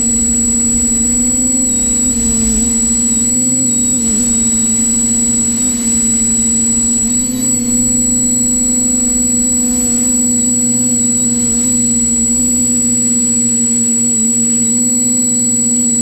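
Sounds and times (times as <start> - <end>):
quadcopter propellers buzzing: 0.0 - 16.0.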